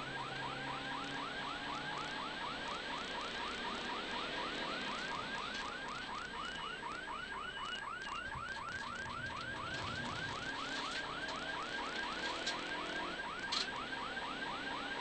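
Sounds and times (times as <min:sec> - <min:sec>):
car driving noise: 0:00.0 - 0:15.0.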